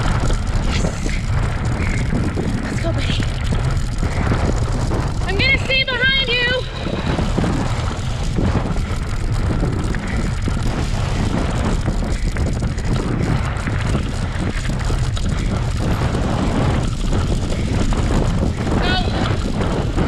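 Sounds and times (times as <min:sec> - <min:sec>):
bike rolling on dirt trail: 0:00.0 - 0:20.0
rattles: 0:00.0 - 0:20.0
wind buffeting microphone: 0:00.0 - 0:20.0.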